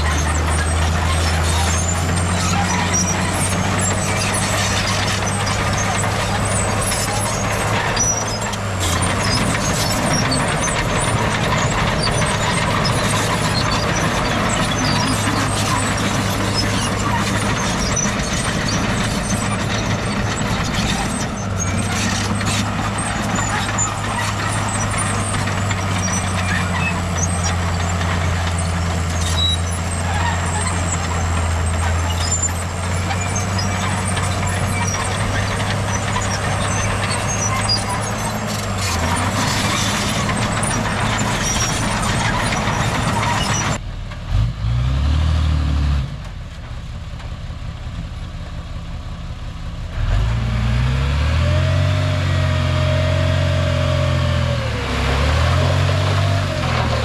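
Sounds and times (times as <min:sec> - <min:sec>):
diesel machinery engine drone: 0:00.0 - 0:57.0.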